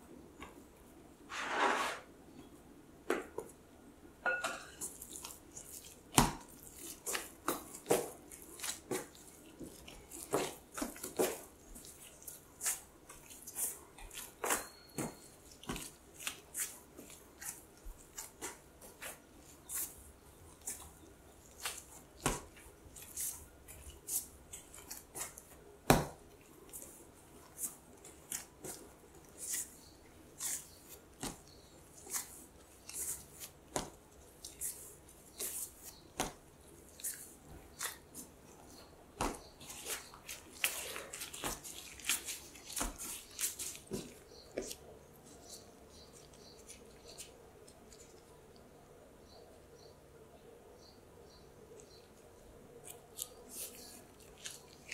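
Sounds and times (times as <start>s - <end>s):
dough kneading smacks and squishes: 4.8s - 48.6s, 52.8s - 54.9s.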